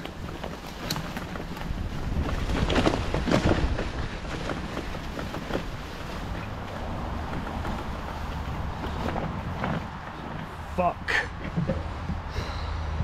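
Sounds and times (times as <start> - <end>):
rustling of long grass: 0.0 - 13.0
wind buffeting microphone: 0.0 - 13.0.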